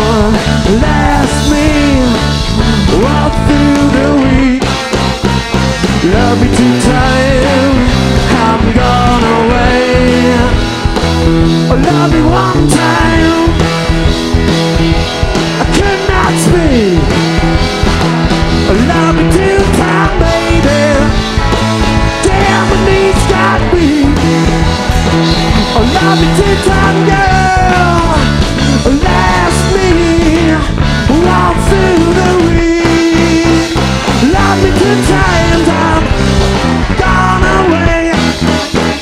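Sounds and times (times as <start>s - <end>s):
lead guitar bending notes: 0.0s - 39.0s
rock band playing instrumental: 0.0s - 39.0s.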